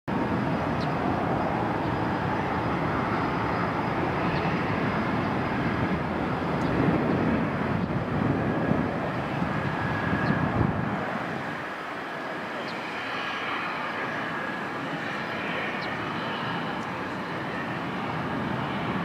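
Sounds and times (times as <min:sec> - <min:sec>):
jet engines roaring: 0:00.1 - 0:19.0.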